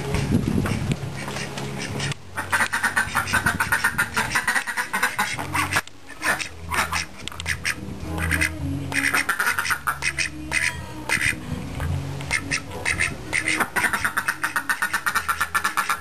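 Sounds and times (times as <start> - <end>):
duck quacking: 0.6 - 11.4, 12.3 - 16.0.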